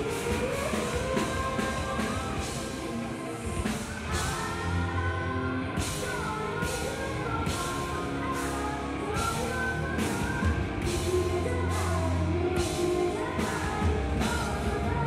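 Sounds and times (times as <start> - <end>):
electric guitar: 0.0 - 15.0
heavy bass line: 0.0 - 15.0
woman singing: 0.0 - 15.0.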